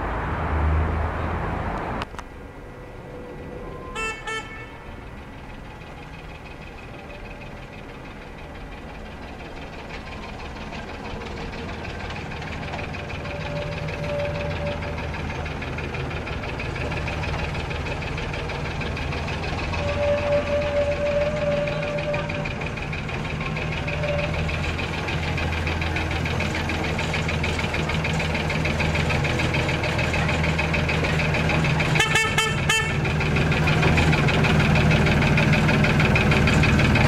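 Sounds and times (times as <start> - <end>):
small locomotive running: 2.1 - 37.0
locomotive toots: 2.6 - 37.0.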